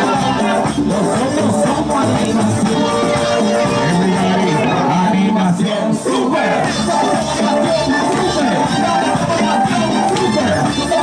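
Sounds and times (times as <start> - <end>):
latin dance music with singing: 0.0 - 11.0.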